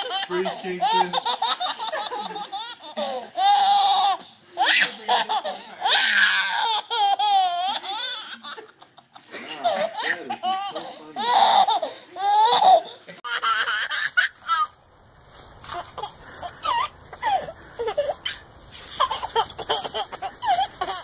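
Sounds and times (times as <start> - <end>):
another baby laughing: 0.0 - 14.8, 15.6 - 21.0
baby laughing and squealing: 0.0 - 14.8, 15.6 - 21.0.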